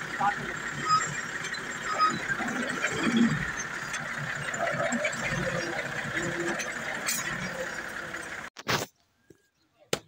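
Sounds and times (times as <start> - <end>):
tractor diesel engine idling: 0.0 - 8.5.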